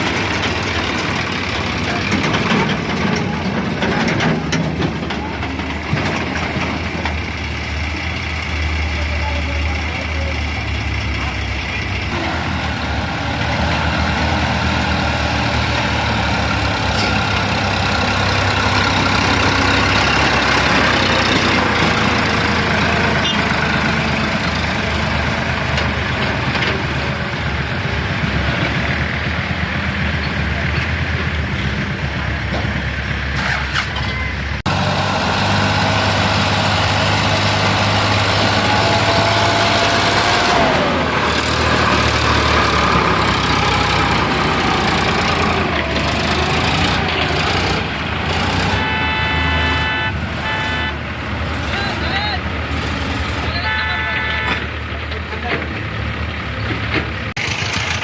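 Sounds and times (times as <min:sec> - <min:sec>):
diesel machinery engines running: 0:00.0 - 0:58.0.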